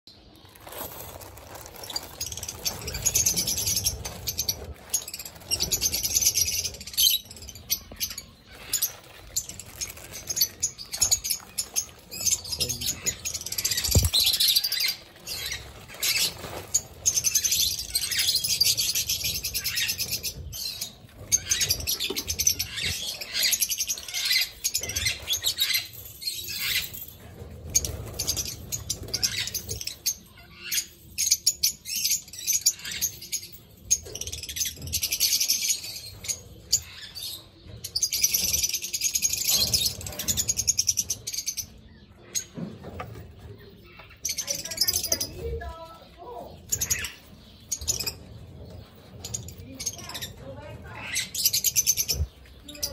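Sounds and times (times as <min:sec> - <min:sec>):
lovebirds chattering: 0:00.1 - 0:52.9.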